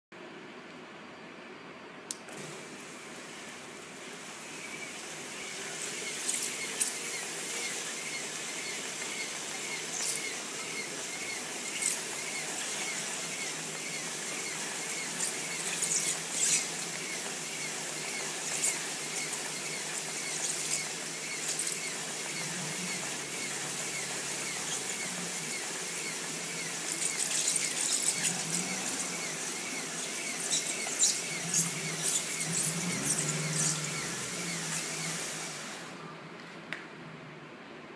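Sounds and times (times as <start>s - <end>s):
label rewinding machine motor: 2.3s - 36.2s.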